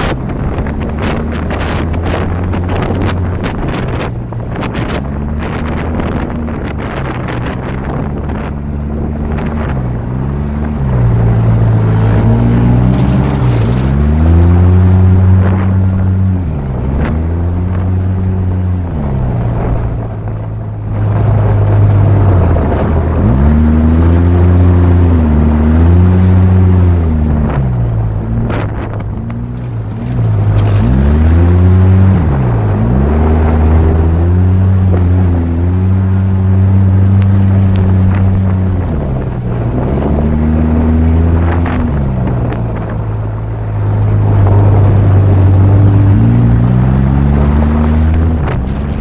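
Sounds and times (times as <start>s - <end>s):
vehicle engine revving: 0.0s - 49.0s.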